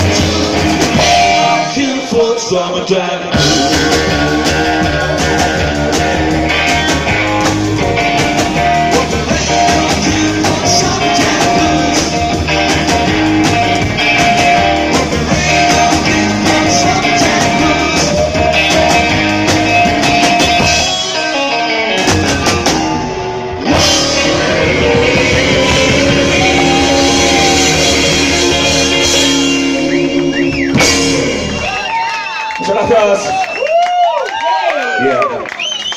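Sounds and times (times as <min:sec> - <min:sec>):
live rock band playing: 0:00.0 - 0:33.3.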